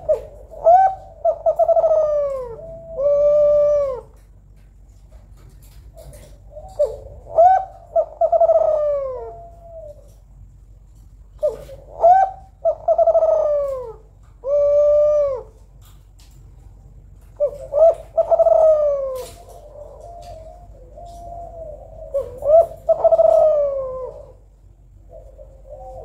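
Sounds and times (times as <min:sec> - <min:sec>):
dove cooing: 0:00.0 - 0:16.3, 0:17.1 - 0:26.0.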